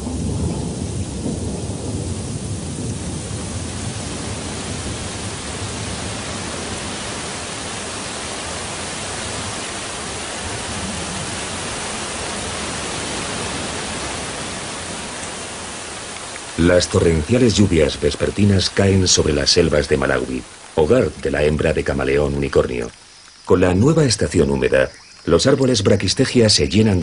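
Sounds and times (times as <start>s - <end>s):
thunder rumbling: 0.0s - 22.9s
torrential rain: 0.0s - 27.0s.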